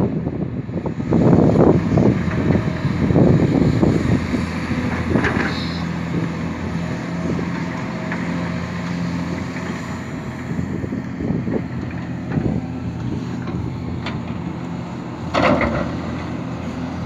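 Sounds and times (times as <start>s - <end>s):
excavator diesel engine droning: 0.1s - 17.0s.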